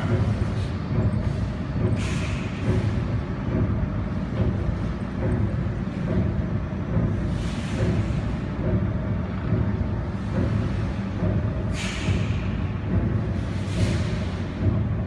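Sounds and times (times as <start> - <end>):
welding machine and chiller hum: 0.0 - 15.0.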